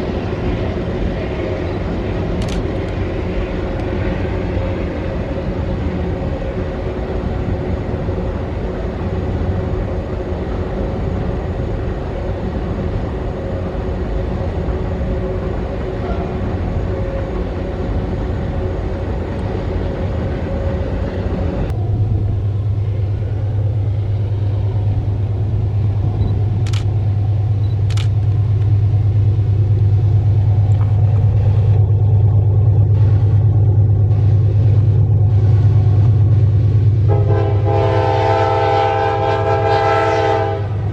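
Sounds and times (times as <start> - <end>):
diesel locomotive humming: 0.0 - 40.9.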